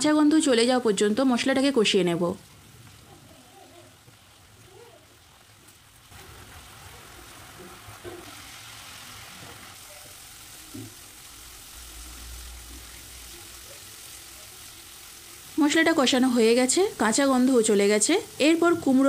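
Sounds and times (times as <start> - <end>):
spice paste sizzling in oil: 0.0 - 19.0.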